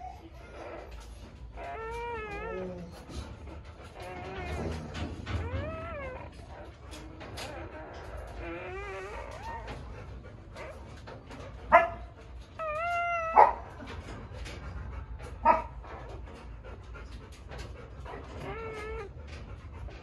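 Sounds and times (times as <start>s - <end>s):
dogs panting: 0.0s - 20.0s
dogs whining: 0.0s - 20.0s
dogs yelping: 0.0s - 20.0s.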